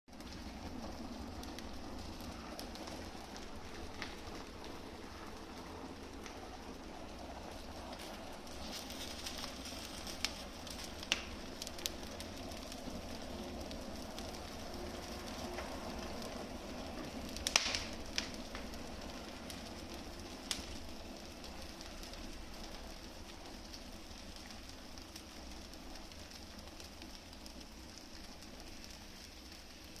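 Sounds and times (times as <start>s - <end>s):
fire popping: 0.1s - 30.0s
wood fire crackling: 0.1s - 30.0s.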